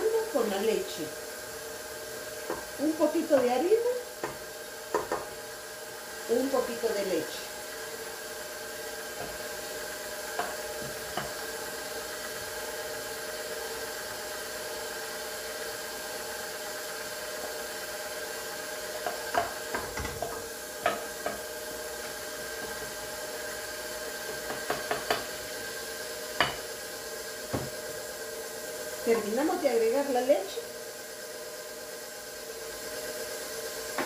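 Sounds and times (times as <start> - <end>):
stand mixer whisking batter: 0.0 - 34.0.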